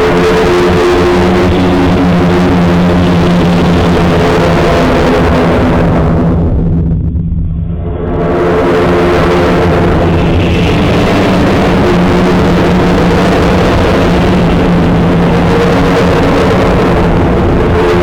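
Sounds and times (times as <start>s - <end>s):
loud harsh steady noise: 0.0s - 18.0s
low droning hum: 0.0s - 18.0s.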